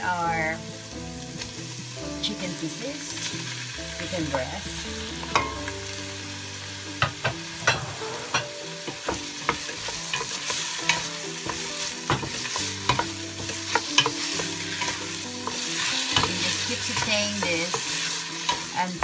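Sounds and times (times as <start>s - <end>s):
chicken sizzling in a pot: 0.0s - 19.0s.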